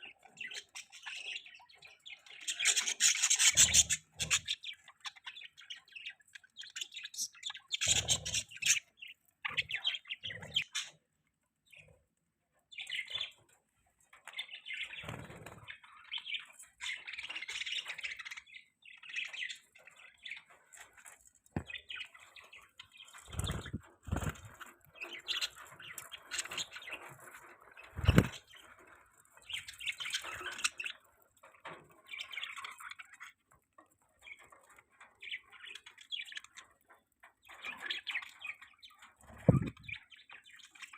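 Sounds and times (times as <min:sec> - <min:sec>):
budgies chirping and chattering: 0:00.0 - 0:12.0, 0:12.6 - 0:40.9.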